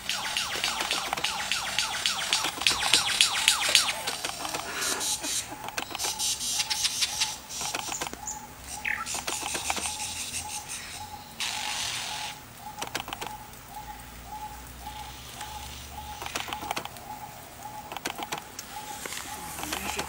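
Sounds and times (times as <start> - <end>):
lyrebird singing: 0.0 - 20.0.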